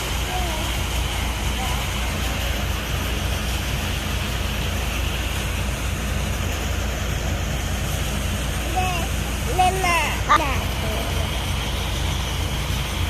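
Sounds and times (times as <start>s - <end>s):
diesel engine humming: 0.0s - 13.0s
threshing drum running: 0.0s - 13.0s.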